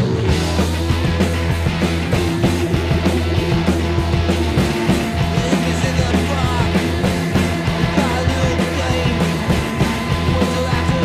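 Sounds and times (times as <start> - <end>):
bass guitar: 0.0 - 11.0
drums playing: 0.0 - 11.0
electric guitars: 0.0 - 11.0.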